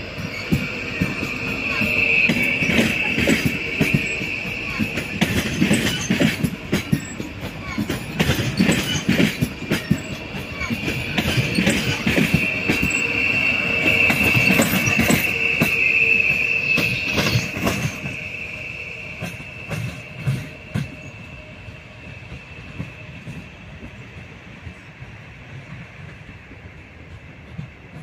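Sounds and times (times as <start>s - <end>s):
train wheels clicking over rail joints: 0.0s - 28.0s
train wheels squealing: 0.0s - 28.0s.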